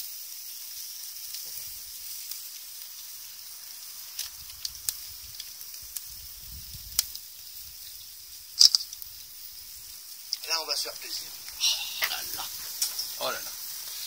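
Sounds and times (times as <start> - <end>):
sausages sizzling on a grill: 0.0 - 14.0
wood fire pops and crackles: 0.0 - 14.0.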